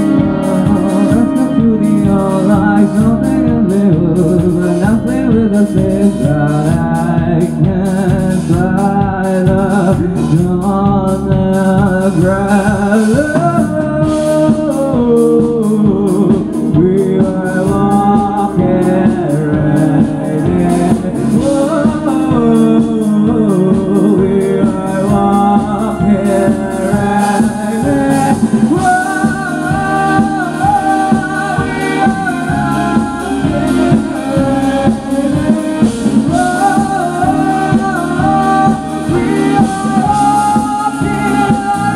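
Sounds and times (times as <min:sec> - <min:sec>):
electric guitars: 0:00.0 - 0:41.9
keyboard: 0:00.0 - 0:41.9
person singing: 0:00.0 - 0:41.9
steady drum beat: 0:00.0 - 0:41.9.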